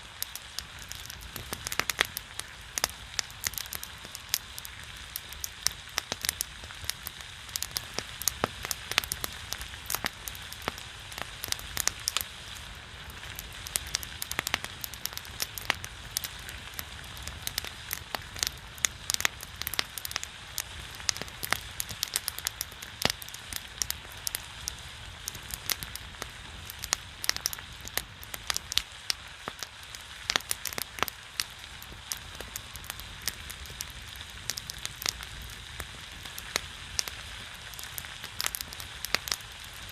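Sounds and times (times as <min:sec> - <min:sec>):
fat sizzling on a griddle: 0:00.0 - 0:39.9
wood fire crackling: 0:00.0 - 0:39.9.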